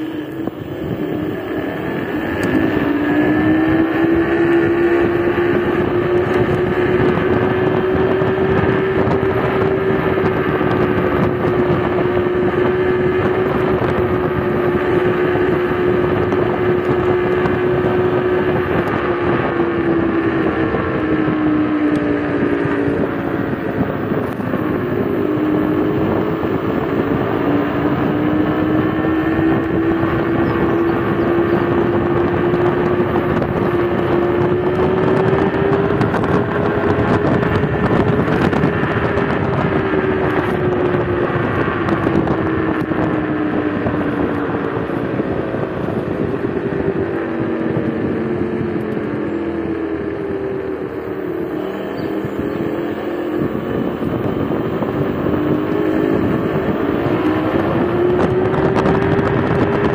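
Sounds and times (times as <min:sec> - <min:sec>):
electric scooter motors whining: 0:00.0 - 0:59.9
wind on microphone: 0:00.0 - 0:59.9.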